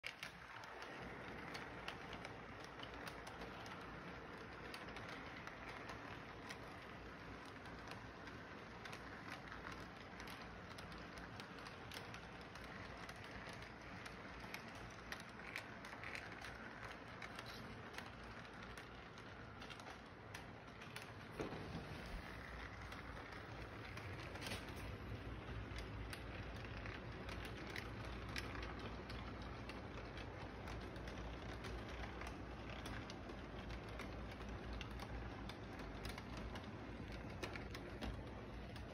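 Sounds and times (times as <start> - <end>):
model train running on track: 0.0 - 38.9
wheels clicking on rails: 0.0 - 38.9.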